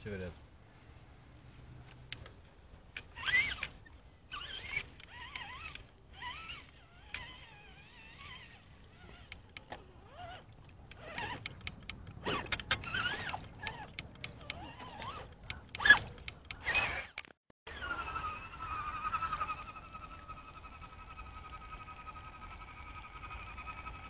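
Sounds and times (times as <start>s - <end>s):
toy truck motor whining: 3.0s - 24.0s.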